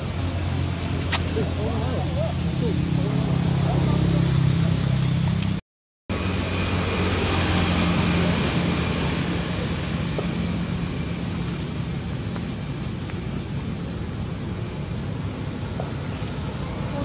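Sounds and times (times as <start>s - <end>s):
low engine-like hum: 0.0s - 17.0s
steady outdoor hiss: 0.0s - 17.0s.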